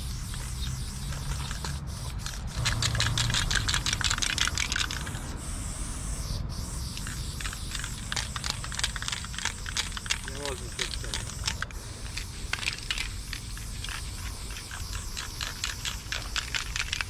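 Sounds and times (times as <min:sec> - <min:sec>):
spray paint hiss: 0:00.0 - 0:17.0
spray can clicking rattle: 0:00.3 - 0:05.2, 0:07.0 - 0:17.0.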